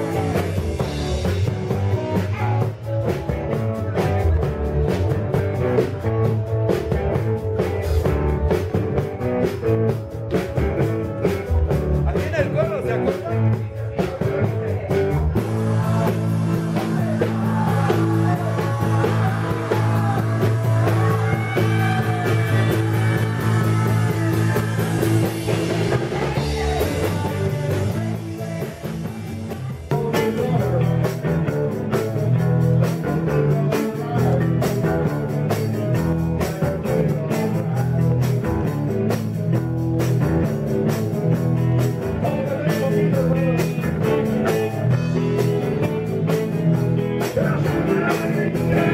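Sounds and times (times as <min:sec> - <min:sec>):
live rock band playing: 0:00.0 - 0:48.9.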